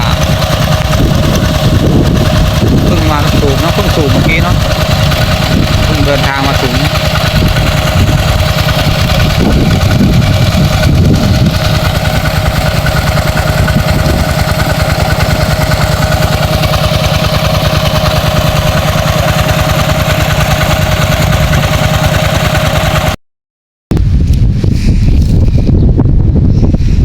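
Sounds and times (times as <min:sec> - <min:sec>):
small engine running water pump: 0:00.0 - 0:23.2.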